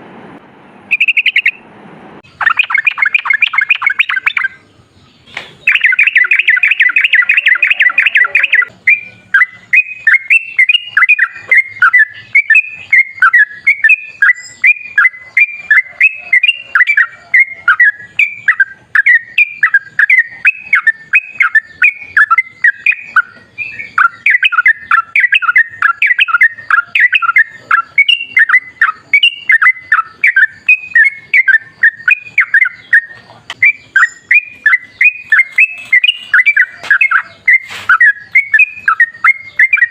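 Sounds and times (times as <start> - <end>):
bird singing trills and chirps: 0.9 - 1.6, 2.2 - 39.9.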